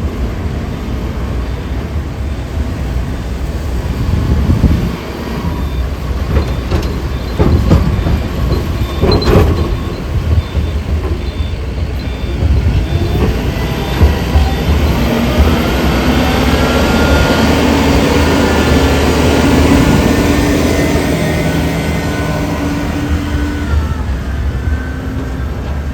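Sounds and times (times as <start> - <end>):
heavy engine rumbling: 0.0 - 25.9.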